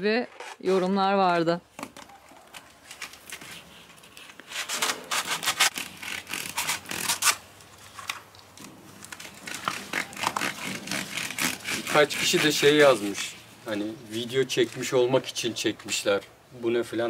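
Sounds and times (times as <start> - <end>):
rustling and rubbing: 2.0 - 16.0.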